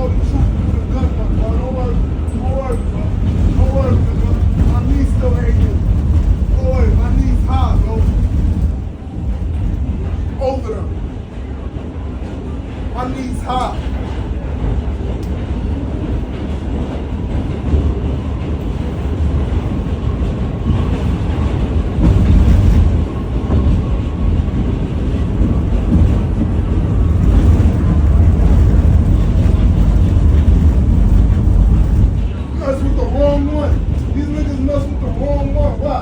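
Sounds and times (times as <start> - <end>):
subway train rumbling: 0.0 - 36.0.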